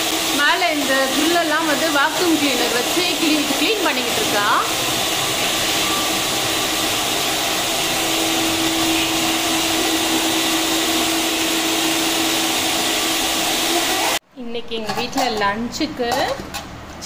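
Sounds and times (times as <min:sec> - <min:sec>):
vacuum cleaner running: 0:00.0 - 0:14.2.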